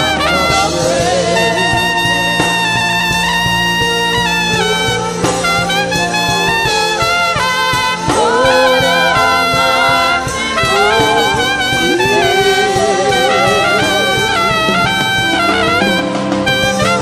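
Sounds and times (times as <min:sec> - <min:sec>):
band with steady beat: 0:00.0 - 0:17.0
trumpet solo: 0:00.0 - 0:17.0.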